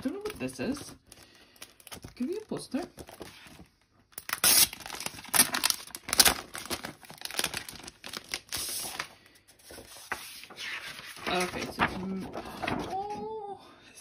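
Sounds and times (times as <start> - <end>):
plastic sleeve crinkling: 0.0 - 13.2.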